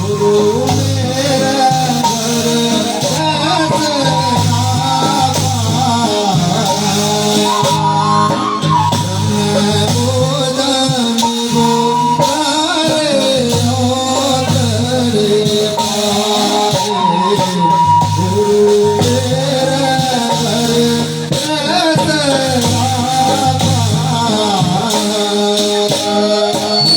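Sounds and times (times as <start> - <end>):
held accompanying tones: 0.0 - 26.9
person singing folk song: 0.0 - 26.9.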